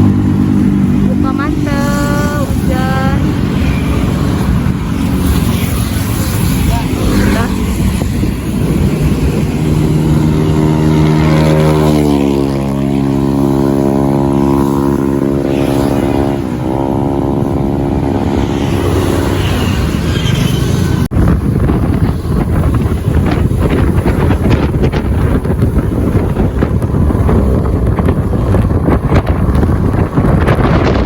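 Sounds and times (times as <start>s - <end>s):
motorcycle engine running: 0.0s - 31.0s
road noise: 0.0s - 31.0s.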